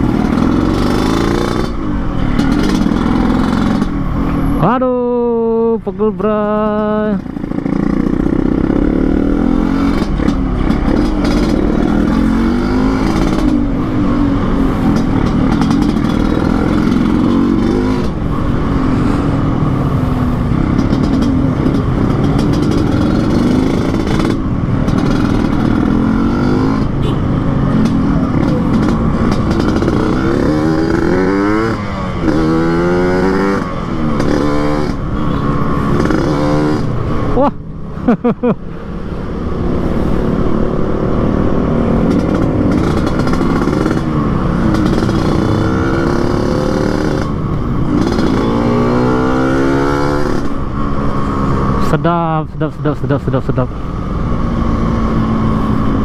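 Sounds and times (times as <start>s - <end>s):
raspy two-stroke motorcycle engine: 0.0s - 4.0s, 6.2s - 18.3s, 20.4s - 38.5s, 41.8s - 55.3s.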